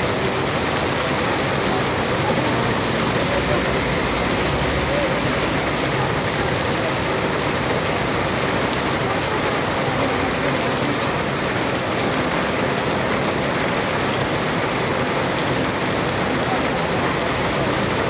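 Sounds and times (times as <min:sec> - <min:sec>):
heavy rain on pavement: 0:00.0 - 0:18.0.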